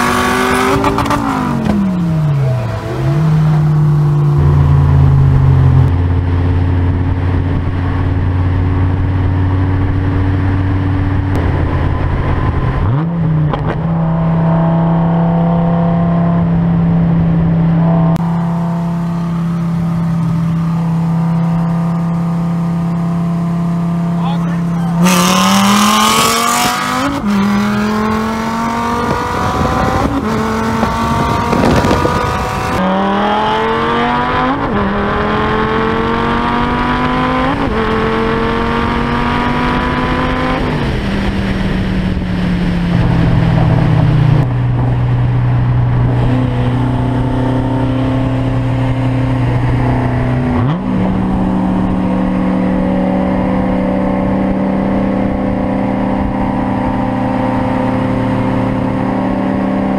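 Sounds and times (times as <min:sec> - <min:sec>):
car engine at full throttle: 0:00.0 - 0:59.9.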